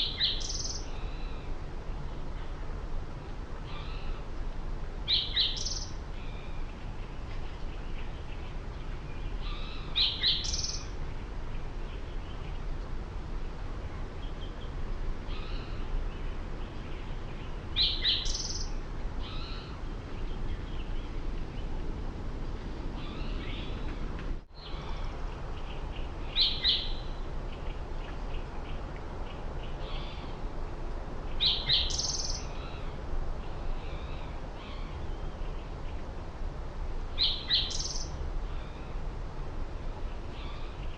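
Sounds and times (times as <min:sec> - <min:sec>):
low background rumble: 0:00.0 - 0:40.9
songbirds chirping: 0:00.0 - 0:40.9.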